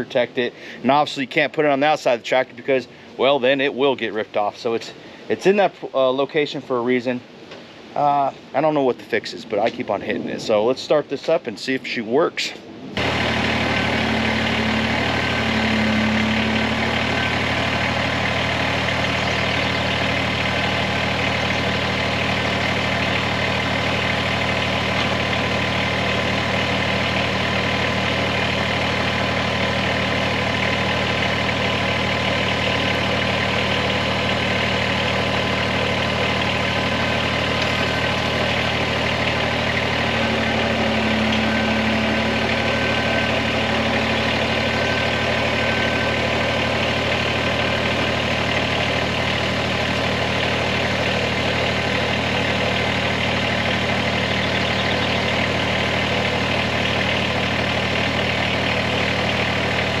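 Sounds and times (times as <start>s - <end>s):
tractor diesel engine idling: 0.0s - 5.7s, 13.0s - 60.0s.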